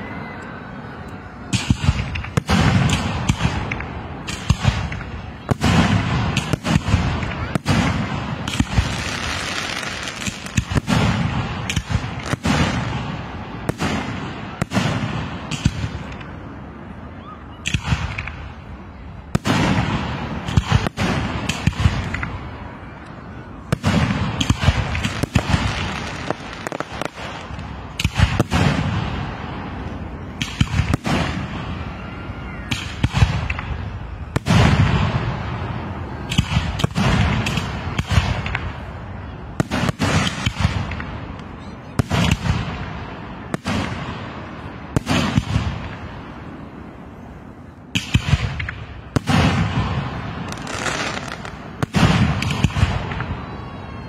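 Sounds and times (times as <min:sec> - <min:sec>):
fireworks crackling hiss: 0:01.4 - 0:16.8, 0:23.7 - 0:53.4
fireworks banging: 0:01.5 - 0:16.6, 0:17.6 - 0:23.0, 0:23.6 - 0:32.0, 0:32.7 - 0:47.3, 0:47.9 - 0:54.0.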